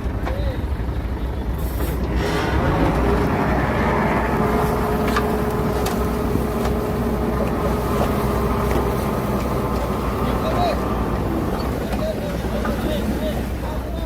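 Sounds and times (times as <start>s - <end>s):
engine whine: 0.0s - 14.0s
heavy diesel engine running: 0.0s - 14.0s.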